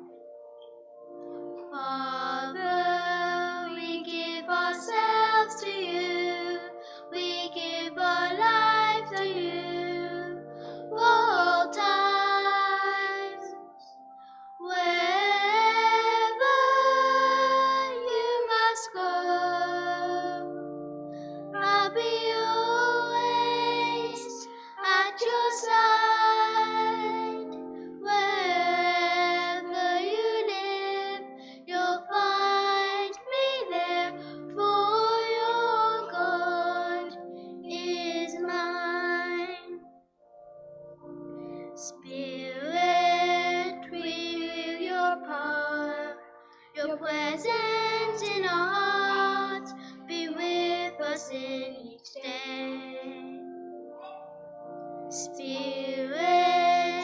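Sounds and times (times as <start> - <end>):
sustained instrumental accompaniment: 0.0 - 57.0
person singing psalm: 1.6 - 20.6, 21.3 - 39.8, 41.6 - 54.2, 55.1 - 57.0.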